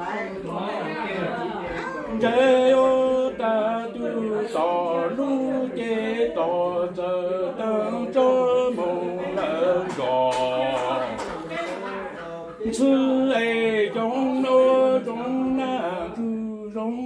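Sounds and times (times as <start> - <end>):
man singing unaccompanied: 0.6 - 11.3, 12.6 - 17.0.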